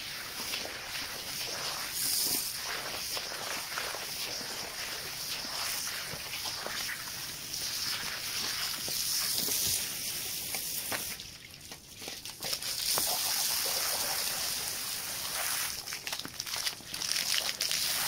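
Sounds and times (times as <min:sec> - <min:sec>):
water sloshing and trickling: 0:00.0 - 0:18.0.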